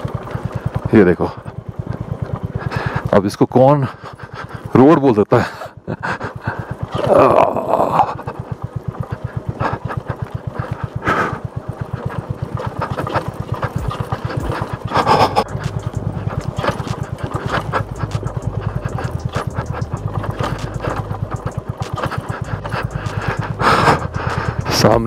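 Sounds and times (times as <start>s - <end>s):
motorcycle engine running at low revs: 0.0s - 25.0s.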